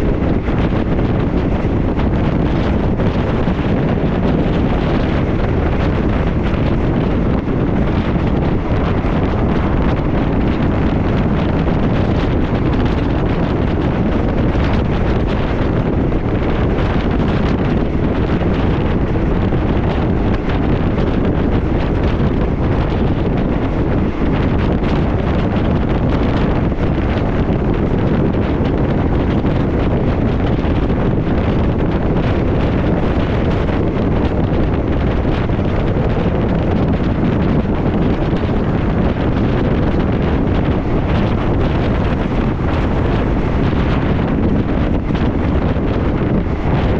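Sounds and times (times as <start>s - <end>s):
train rumbling on track: 0.0s - 46.9s
wind buffeting microphone: 0.0s - 46.9s.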